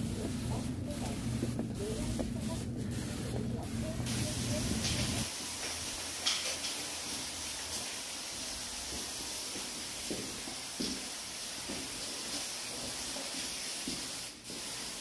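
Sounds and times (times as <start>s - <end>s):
steady hissing noise: 0.0s - 15.0s.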